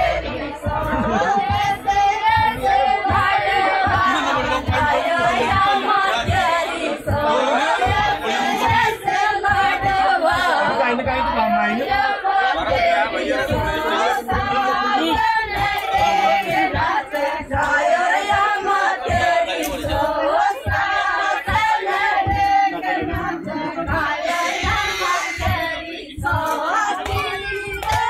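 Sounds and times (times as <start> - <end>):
low thumps: 0.0 - 28.0
women singing folk song: 0.0 - 28.0.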